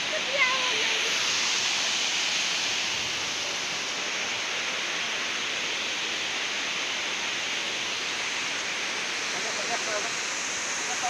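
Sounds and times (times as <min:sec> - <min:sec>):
waterfall pouring over rocks: 0:00.0 - 0:11.0.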